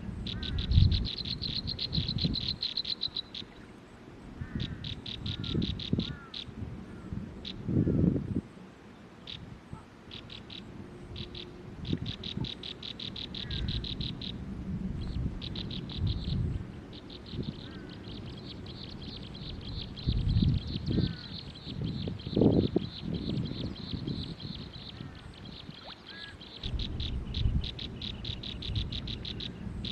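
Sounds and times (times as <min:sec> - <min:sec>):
bird trilling calls: 0:00.2 - 0:03.7, 0:04.4 - 0:07.6, 0:10.1 - 0:14.4, 0:15.0 - 0:29.9.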